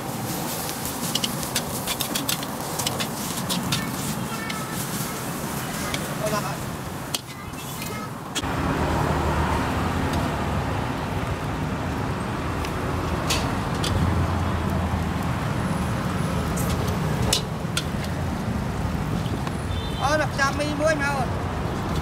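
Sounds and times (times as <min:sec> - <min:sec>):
traffic engines passing: 0:00.0 - 0:22.0.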